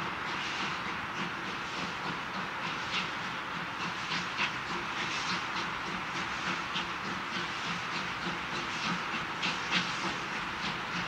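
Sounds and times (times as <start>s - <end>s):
continuous steam hiss: 0.0s - 11.0s
steam locomotive chuffing: 0.0s - 11.0s.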